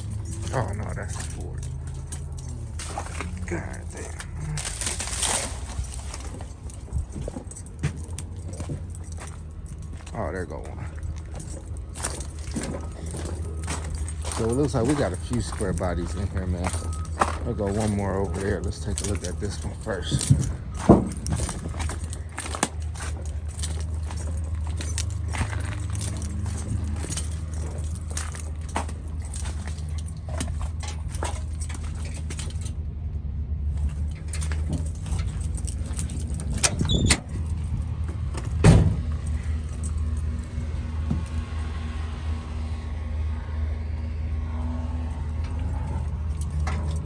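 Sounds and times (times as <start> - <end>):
loose things rattling: 0.0 - 32.8, 33.8 - 40.6
vehicle engine drone: 0.0 - 47.0.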